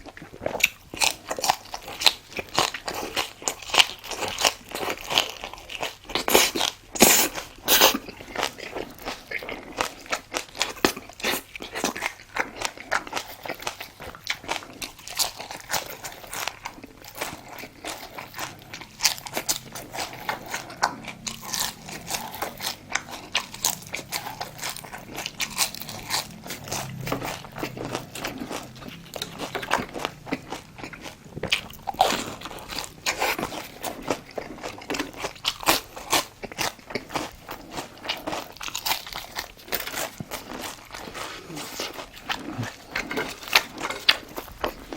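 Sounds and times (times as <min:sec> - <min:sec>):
crunching and chewing food: 0:00.0 - 0:44.9.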